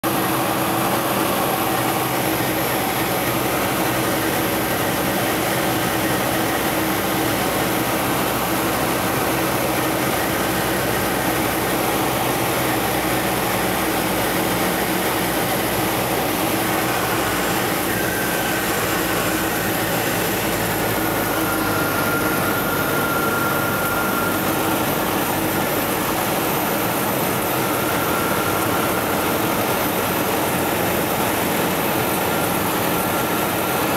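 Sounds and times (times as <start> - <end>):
propeller plane engine running: 0.0 - 33.9.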